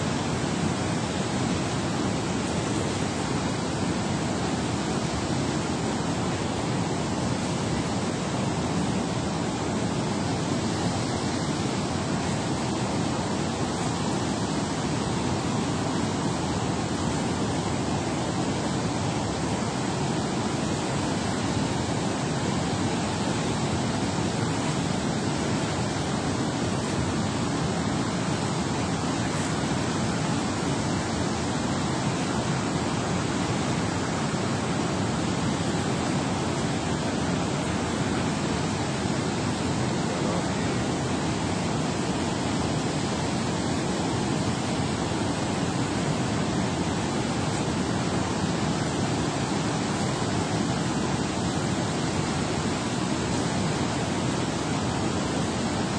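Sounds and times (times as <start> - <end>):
water roaring from spillway: 0.0 - 55.9.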